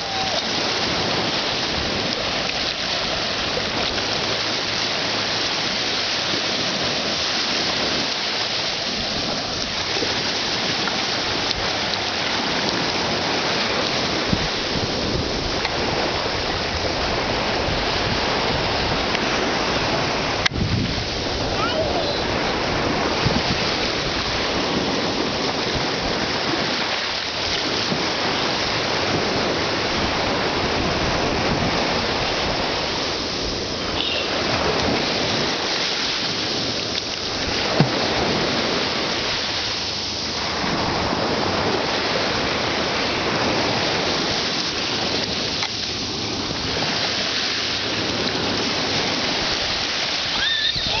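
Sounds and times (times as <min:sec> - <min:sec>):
ocean surf breaking: 0:00.0 - 0:51.0.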